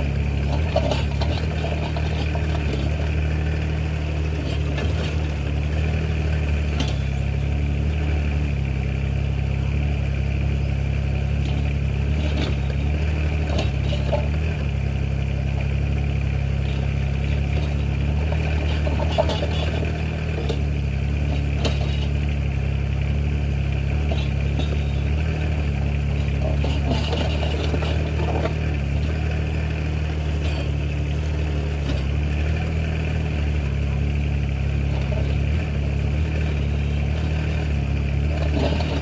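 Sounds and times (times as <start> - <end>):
excavator engine running: 0.0 - 39.0.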